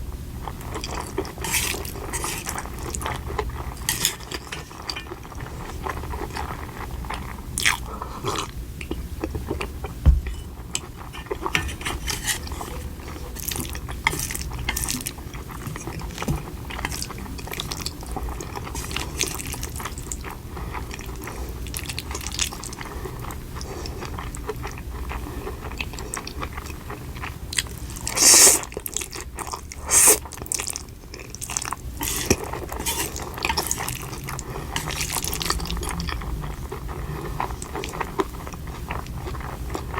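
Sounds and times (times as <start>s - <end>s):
person chewing food: 0.4s - 39.9s.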